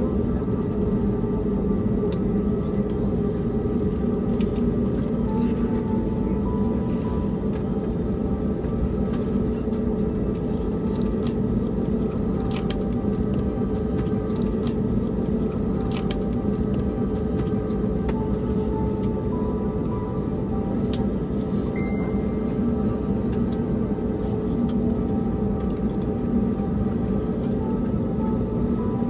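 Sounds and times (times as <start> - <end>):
airplane cabin rumble: 0.0 - 29.0
constant hum: 0.0 - 29.0.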